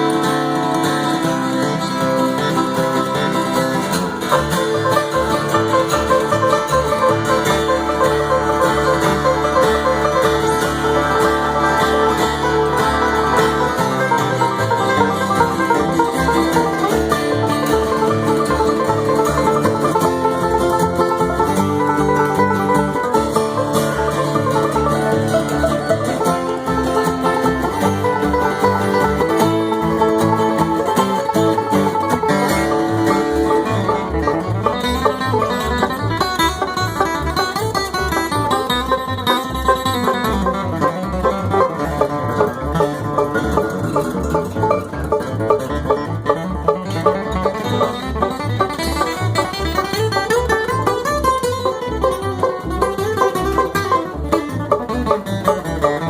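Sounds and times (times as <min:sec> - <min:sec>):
banjo picking: 0:00.0 - 0:56.0
guitar: 0:00.0 - 0:56.0.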